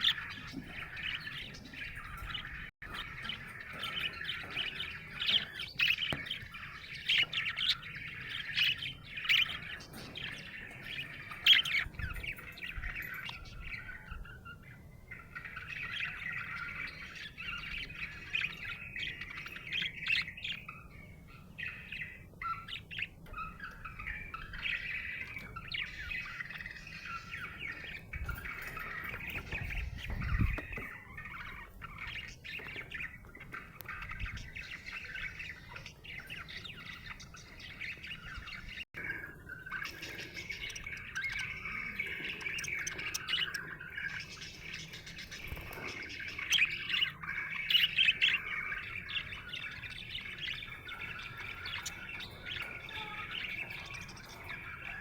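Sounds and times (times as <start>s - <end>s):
budgerigar chirping and warbling: 0.0s - 55.0s.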